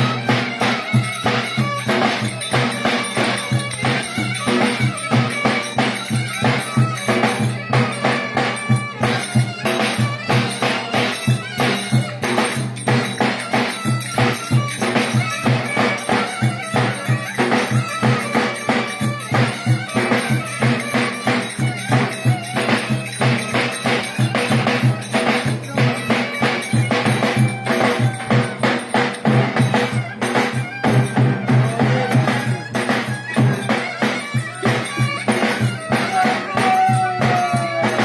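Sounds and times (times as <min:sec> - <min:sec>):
band playing dance music: 0:00.0 - 0:38.0
quick drum beat: 0:00.0 - 0:38.0.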